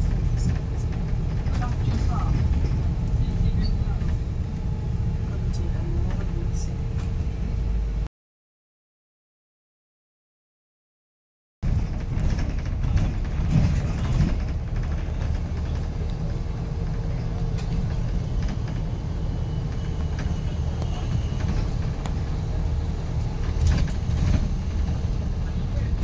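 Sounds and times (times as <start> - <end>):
vehicle engine rumbling: 0.0 - 8.1, 11.6 - 26.0.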